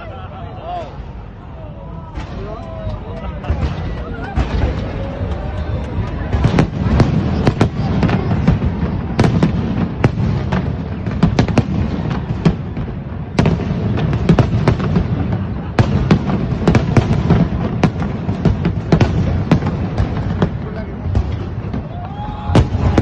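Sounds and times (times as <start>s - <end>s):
low rumble of fireworks bursts: 0.0s - 23.0s
fireworks cracks and bangs: 2.0s - 23.0s.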